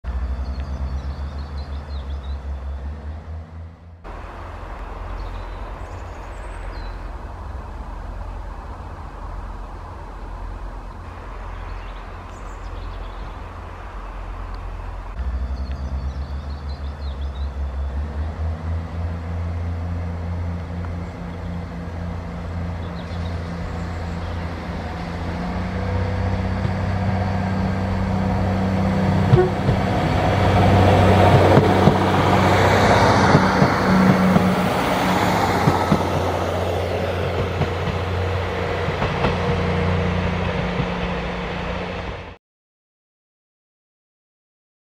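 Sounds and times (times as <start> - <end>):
diesel train engine drone: 0.0 - 42.4
wheel and rail noise: 0.1 - 42.4.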